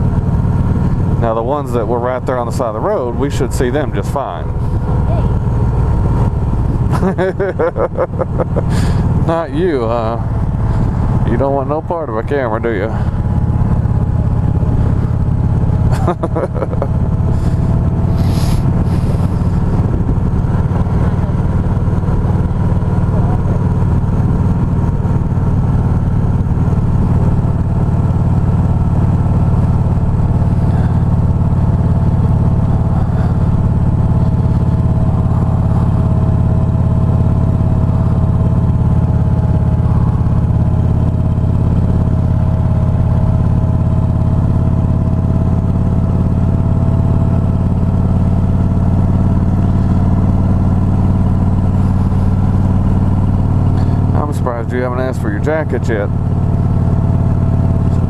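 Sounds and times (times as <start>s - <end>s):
motorcycle engine cruising: 0.0s - 58.0s
road and wind noise: 0.0s - 58.0s.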